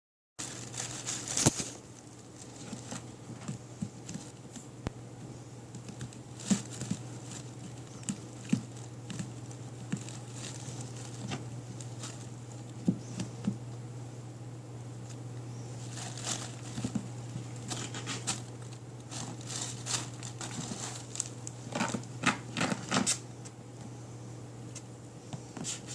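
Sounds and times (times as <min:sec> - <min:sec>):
steady low hum: 0:00.4 - 0:25.9.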